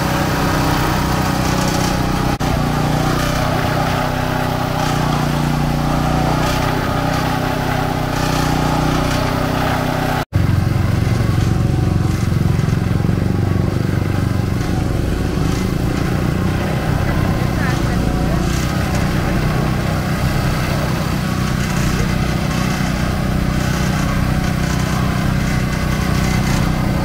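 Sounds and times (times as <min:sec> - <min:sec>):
sugarcane press running: 0:00.0 - 0:27.0.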